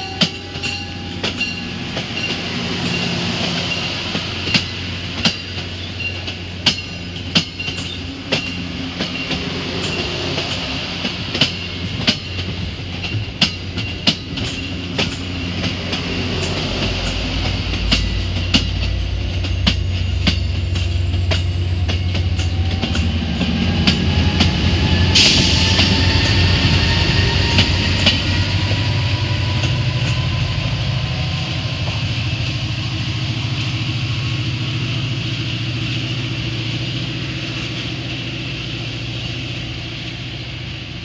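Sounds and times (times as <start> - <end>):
diesel locomotive engine drone: 0.0 - 41.0
train wheels clicking over rail joints: 0.0 - 41.0.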